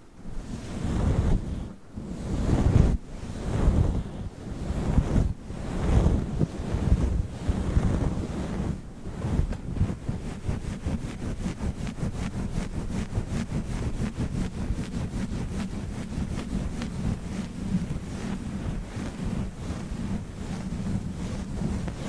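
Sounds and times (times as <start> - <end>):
rubbing on microphone windscreen: 0.1 - 22.0.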